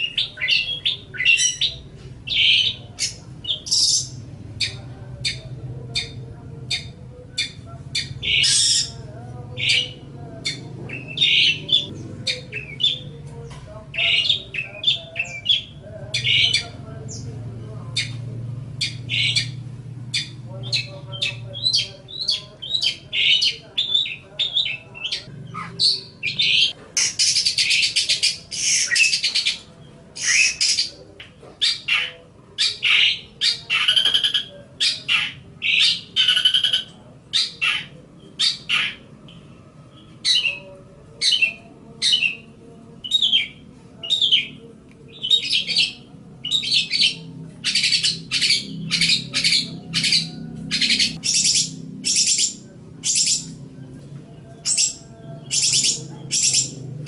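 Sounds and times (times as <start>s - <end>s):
shrike chattering song: 0.0s - 13.2s, 13.9s - 40.6s, 41.2s - 53.7s, 54.6s - 57.0s.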